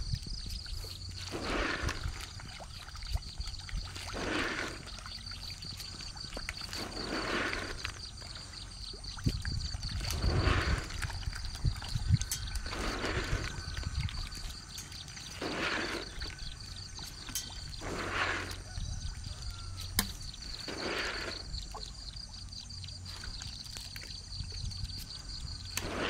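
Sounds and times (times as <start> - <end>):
water sloshing: 0.0 - 26.0.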